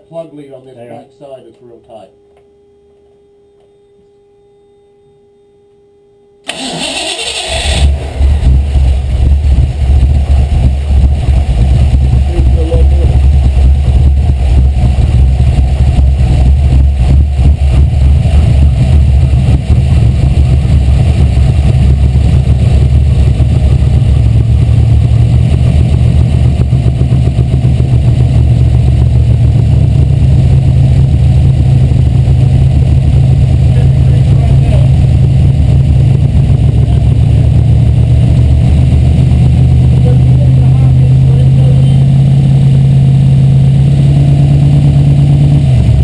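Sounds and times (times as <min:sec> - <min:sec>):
car engine idling: 0:06.5 - 0:46.0.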